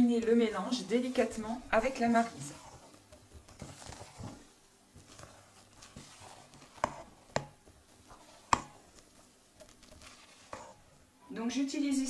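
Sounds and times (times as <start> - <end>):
spatula folding batter: 0.0 - 11.2.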